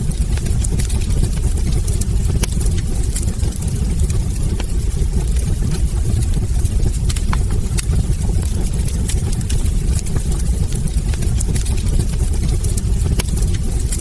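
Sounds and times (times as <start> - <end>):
burning logs crackling: 0.0 - 14.0
fire rumbling: 0.0 - 14.0.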